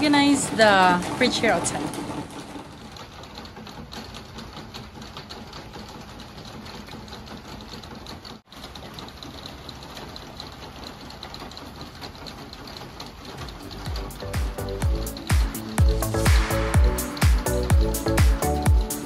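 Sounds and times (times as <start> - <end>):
steady rain falling: 2.8 - 19.0.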